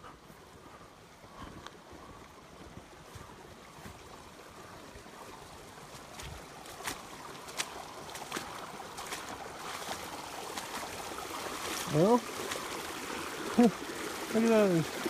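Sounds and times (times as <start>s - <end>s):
creek running over rocks: 0.0s - 15.0s.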